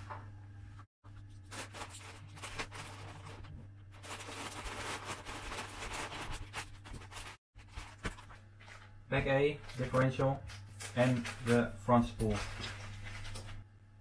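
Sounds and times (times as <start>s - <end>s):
plastic bags crinkling: 1.3s - 8.9s, 9.6s - 13.7s.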